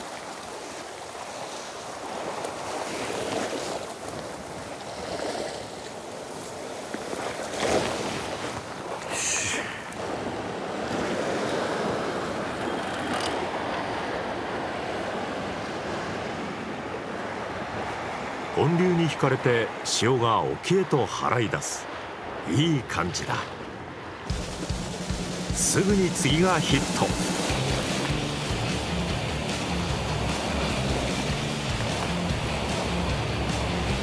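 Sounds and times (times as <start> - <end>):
sea surf on rocky shore: 0.0 - 34.0.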